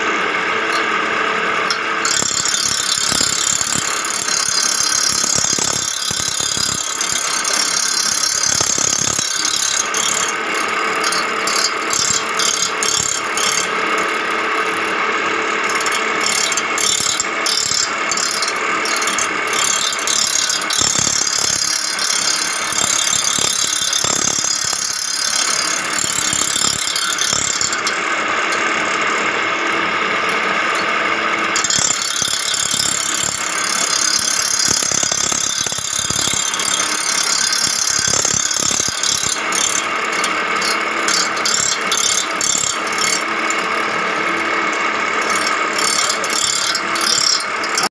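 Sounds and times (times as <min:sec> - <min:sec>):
grinding wheel rasping on reel: 0:00.0 - 0:47.9
machine running: 0:00.0 - 0:47.9.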